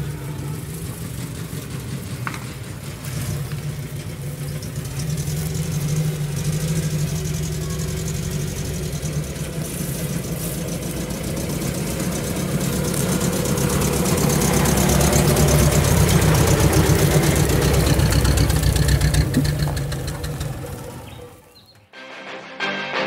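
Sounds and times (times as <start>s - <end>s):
off-road vehicle engine at low revs: 0.0s - 21.9s.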